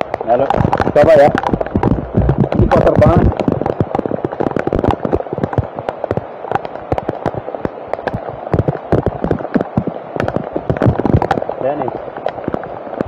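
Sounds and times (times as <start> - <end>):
heavy rain drops striking microphone: 0.0 - 13.0.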